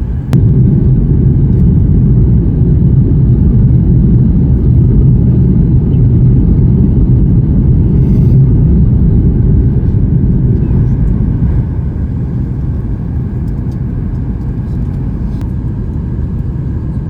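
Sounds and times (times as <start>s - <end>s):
jet engine rumble in cabin: 0.0s - 17.0s.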